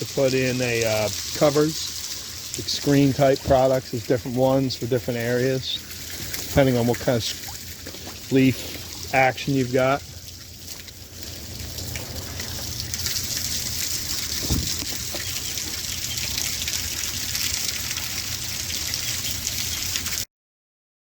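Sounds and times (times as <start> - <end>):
water pouring down rain chain: 0.0 - 20.3.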